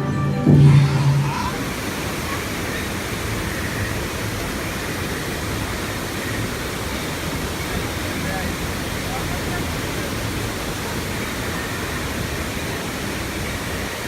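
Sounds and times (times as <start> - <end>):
rush of falling water: 0.5 - 14.0.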